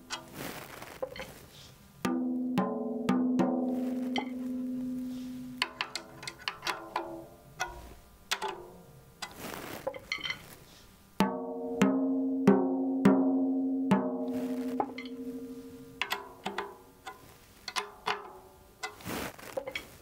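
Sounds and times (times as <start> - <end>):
drumstick tapping tom-tom: 0.0 - 1.4, 2.0 - 10.5, 11.2 - 20.0.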